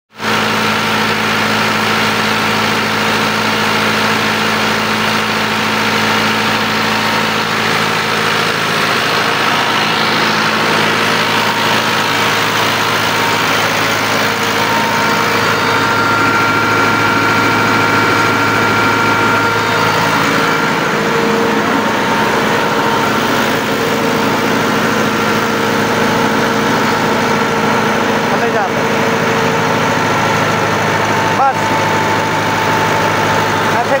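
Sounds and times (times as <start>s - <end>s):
tractor diesel engine running: 0.1s - 34.0s.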